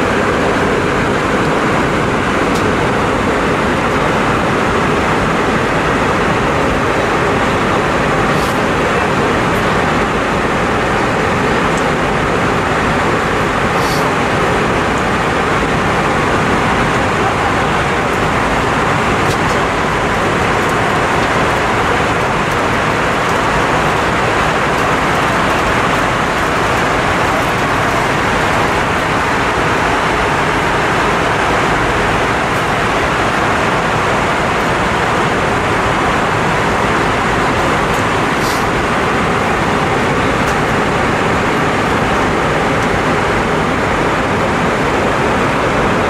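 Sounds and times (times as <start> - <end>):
airflow rush in cabin: 0.0 - 46.0
jet engines droning: 0.0 - 46.0.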